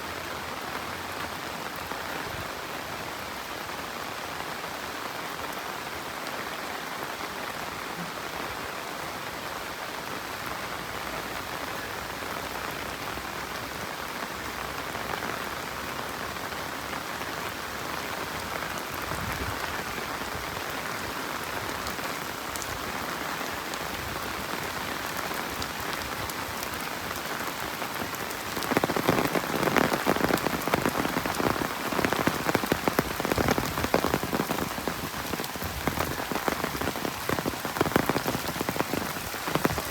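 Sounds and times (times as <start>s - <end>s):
rain on road and foliage: 0.0s - 39.9s.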